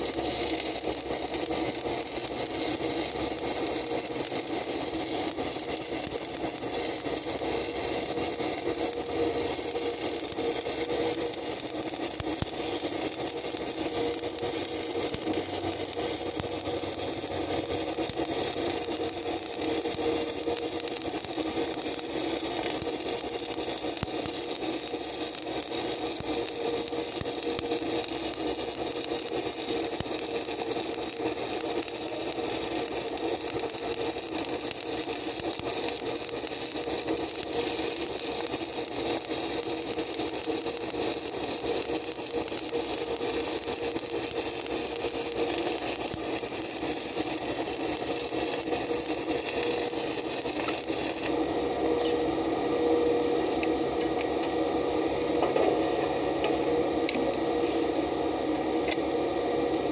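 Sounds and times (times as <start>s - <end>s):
welding arc crackling: 0.0s - 52.3s.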